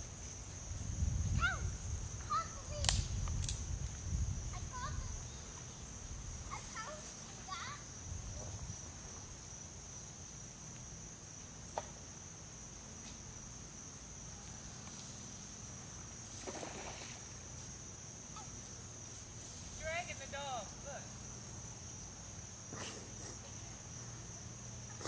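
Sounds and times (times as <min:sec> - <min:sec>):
insect chorus: 0:00.0 - 0:25.0
pulsing insect chirp: 0:00.0 - 0:25.0.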